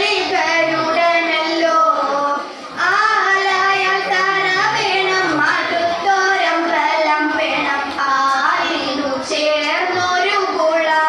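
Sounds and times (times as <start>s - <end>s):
young women singing: 0.0s - 11.0s.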